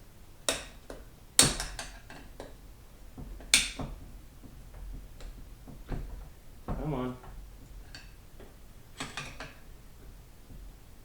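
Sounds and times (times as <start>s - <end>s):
sharp knocks: 0.5s - 10.7s.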